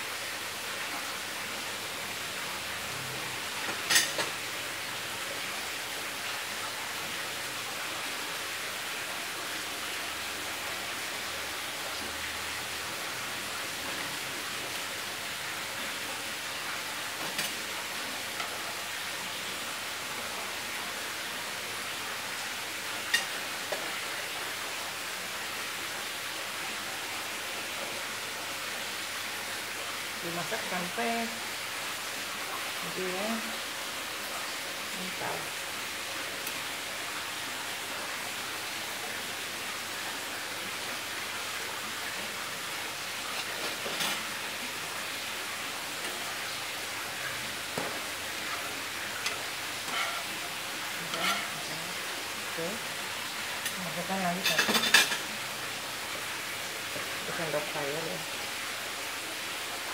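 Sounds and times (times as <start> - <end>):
pancake sizzling in pan: 0.0 - 59.9.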